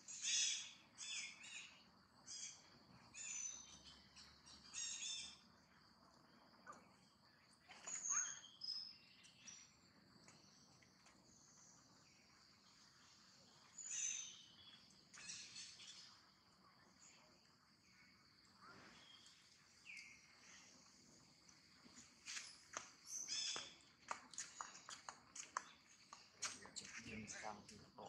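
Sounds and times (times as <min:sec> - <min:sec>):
bird chirps: 0:00.0 - 0:05.5, 0:07.6 - 0:12.4, 0:13.5 - 0:17.3, 0:17.9 - 0:20.8, 0:22.2 - 0:28.0
high insect hiss: 0:00.0 - 0:28.0.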